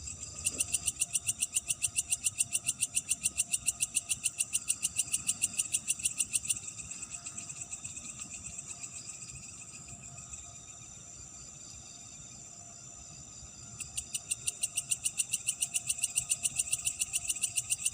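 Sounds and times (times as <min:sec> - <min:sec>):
chorus of crickets: 0:00.0 - 0:17.9
loud pulsed insect call: 0:00.0 - 0:17.9.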